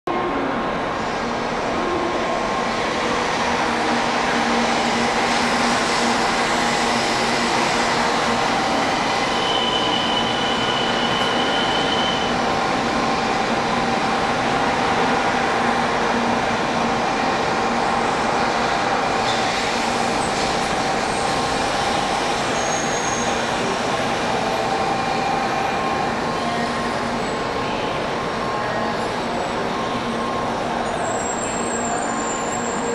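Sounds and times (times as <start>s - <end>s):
train running noise: 0.1s - 32.9s.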